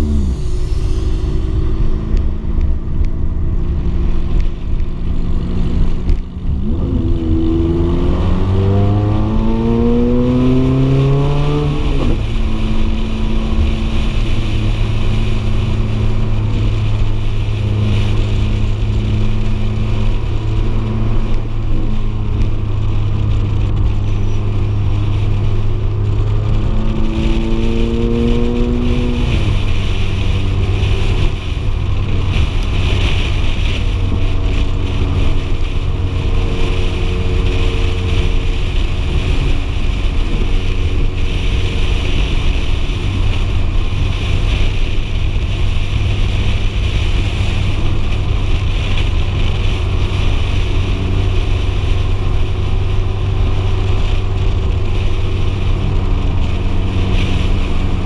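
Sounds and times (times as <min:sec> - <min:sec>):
car engine running: 0:00.0 - 0:58.0
wind noise on microphone: 0:00.0 - 0:58.0.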